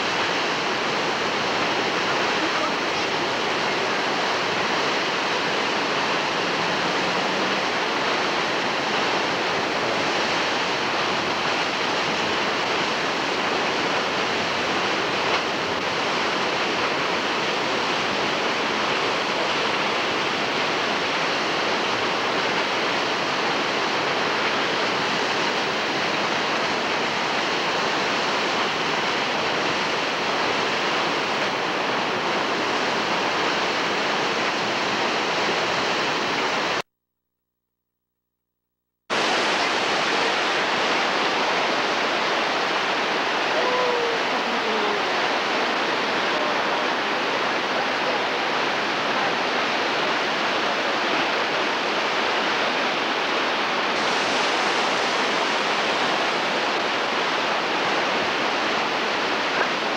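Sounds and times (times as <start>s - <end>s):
whitewater rushing: 0.0s - 36.8s, 39.1s - 59.9s.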